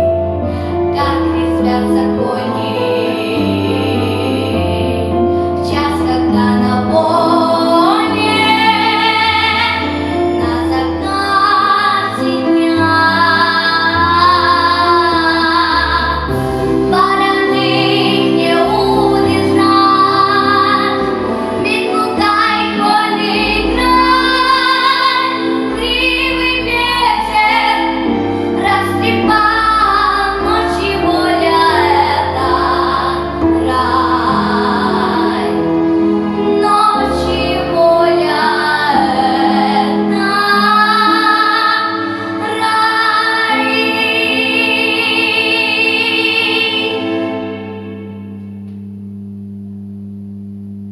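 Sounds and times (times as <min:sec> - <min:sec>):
instrumental accompaniment: 0:00.0 - 0:49.3
woman singing: 0:00.7 - 0:35.7, 0:36.3 - 0:48.0.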